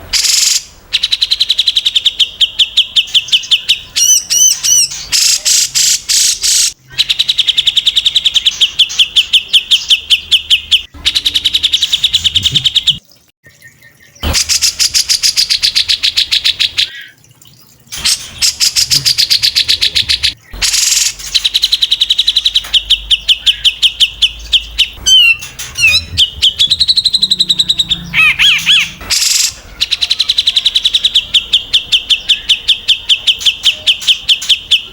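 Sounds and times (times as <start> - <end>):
songbirds singing rapid runs: 0.0 - 17.2, 17.9 - 34.9.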